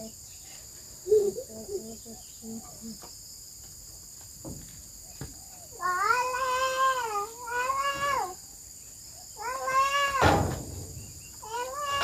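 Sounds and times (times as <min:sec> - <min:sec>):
crickets and insects buzzing: 0:00.0 - 0:12.0.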